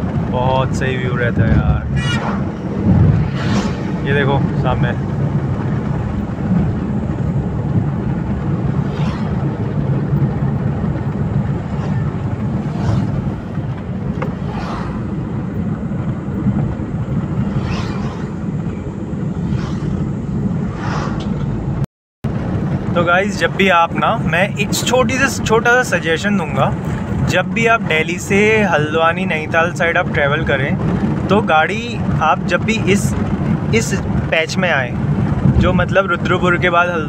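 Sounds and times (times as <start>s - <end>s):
car engine and tyre drone: 0.0s - 37.0s.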